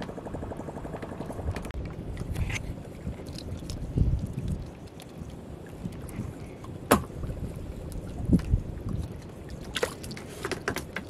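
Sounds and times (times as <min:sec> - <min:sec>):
water and wind around hull: 0:00.0 - 0:11.0.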